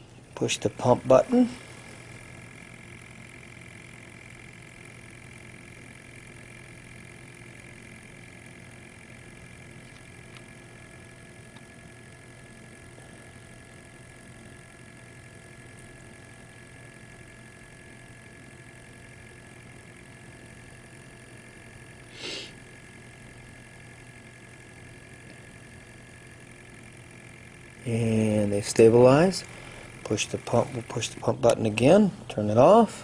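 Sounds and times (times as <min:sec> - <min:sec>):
sampling pump humming with whine: 0:00.0 - 0:33.0.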